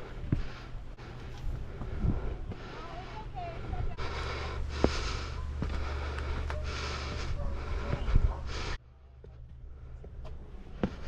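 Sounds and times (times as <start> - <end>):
footsteps on rocky trail: 0.0 - 11.0.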